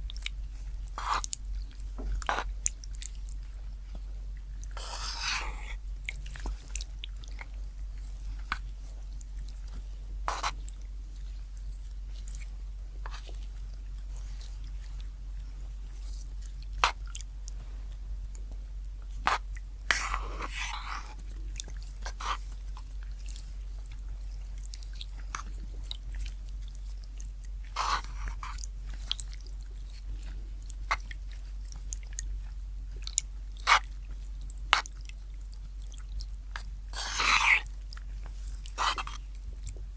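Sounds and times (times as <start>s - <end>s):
chewing and biting: 0.0s - 39.9s
steady low hum: 0.0s - 39.9s.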